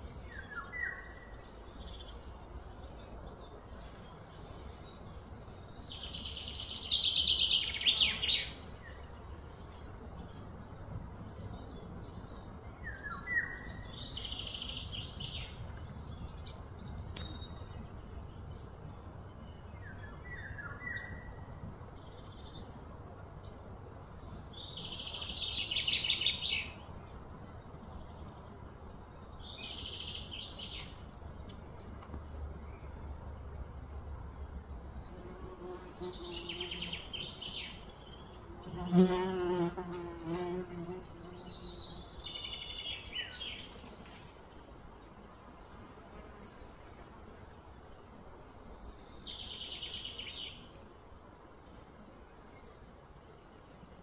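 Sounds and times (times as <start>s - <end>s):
birds chirping: 0.0s - 53.5s.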